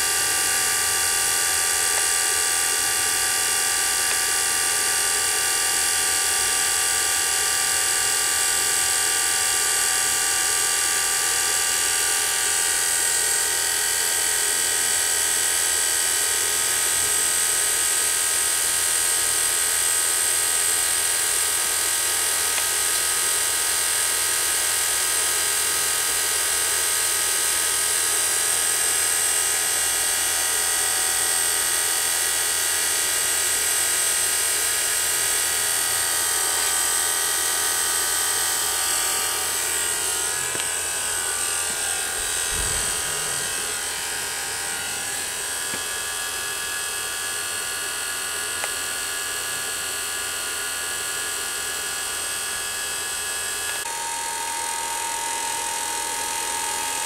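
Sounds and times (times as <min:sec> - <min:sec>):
vacuum pump mechanical whine: 0:00.0 - 0:57.0.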